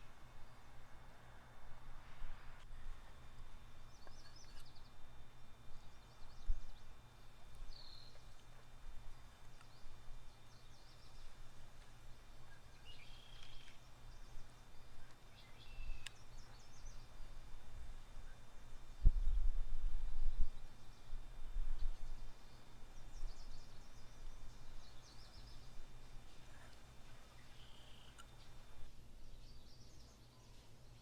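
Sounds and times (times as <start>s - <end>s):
birds chirping: 2.4s - 19.1s, 20.2s - 31.0s.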